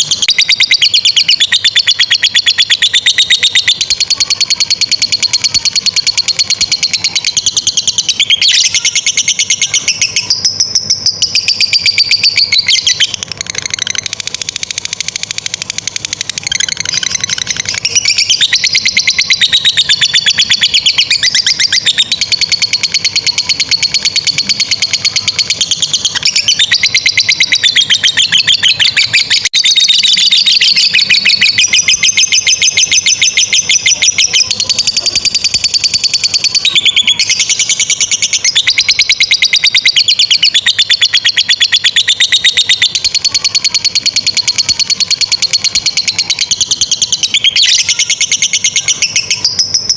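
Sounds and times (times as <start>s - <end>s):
lovebird chattering trill: 0.0s - 49.9s.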